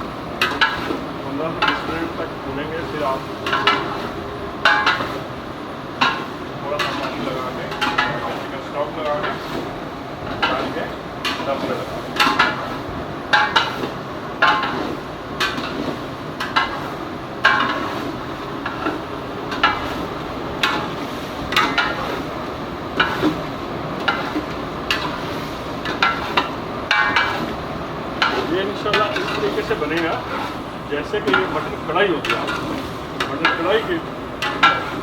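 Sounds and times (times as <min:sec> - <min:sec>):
frying sizzle: 0:00.0 - 0:35.0.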